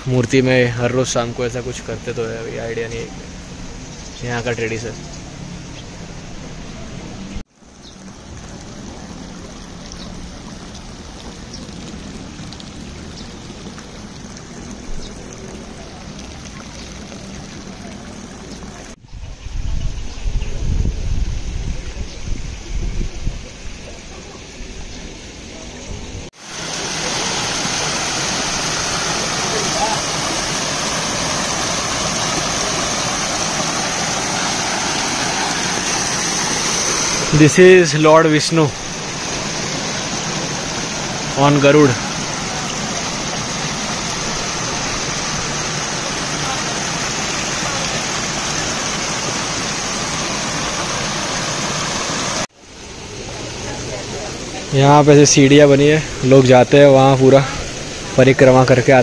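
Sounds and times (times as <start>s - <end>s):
running water: 0.0s - 19.1s, 21.2s - 59.0s.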